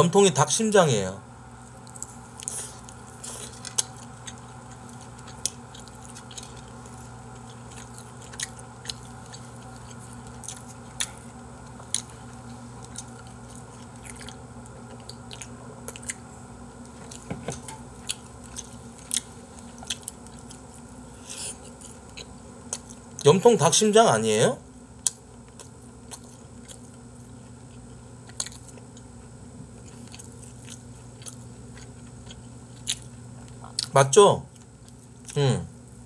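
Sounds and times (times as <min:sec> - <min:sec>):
steady low hum: 0:00.0 - 0:36.0
chewing and mouth sounds: 0:01.6 - 0:23.3, 0:24.9 - 0:35.4.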